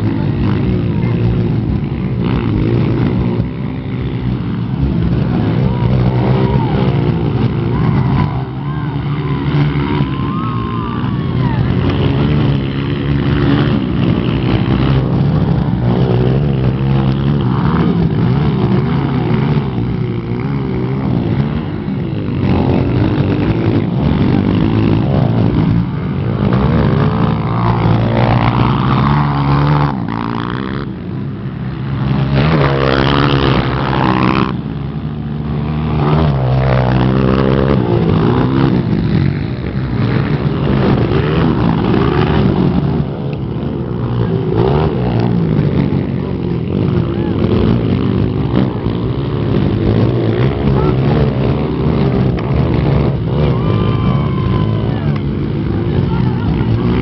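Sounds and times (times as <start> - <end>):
motocross motorcycle engines revving: 0.0 - 57.0.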